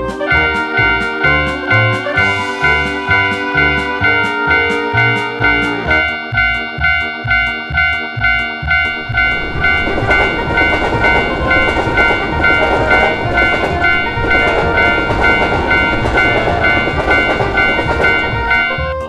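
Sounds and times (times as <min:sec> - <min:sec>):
passing train rumble and clatter: 0:00.0 - 0:19.0
railroad crossing bell ringing: 0:00.0 - 0:19.0.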